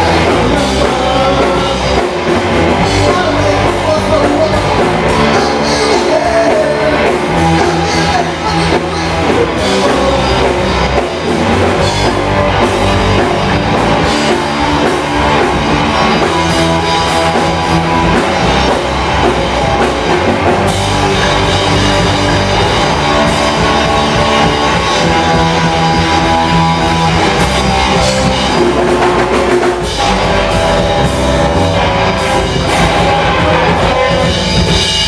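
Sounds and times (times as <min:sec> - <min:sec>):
drum kit: 0:00.0 - 0:35.0
electric bass: 0:00.0 - 0:35.0
electric guitar: 0:00.0 - 0:35.0.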